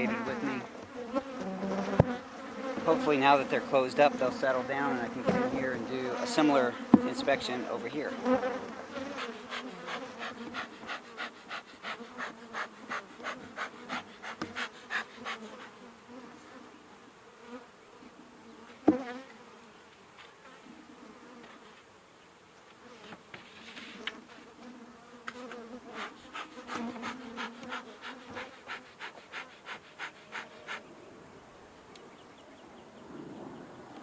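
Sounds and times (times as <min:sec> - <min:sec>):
honeybees buzzing: 0:00.0 - 0:34.0.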